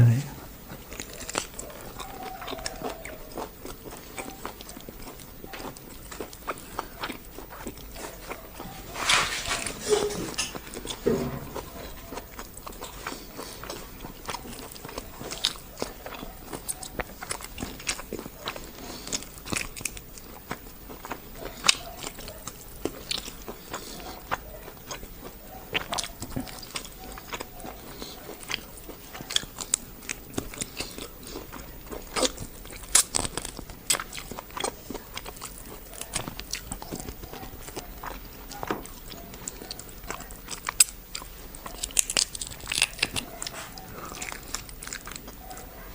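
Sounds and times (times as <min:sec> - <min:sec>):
food crunch: 0:00.0 - 0:45.9
person chewing food: 0:00.0 - 0:45.9.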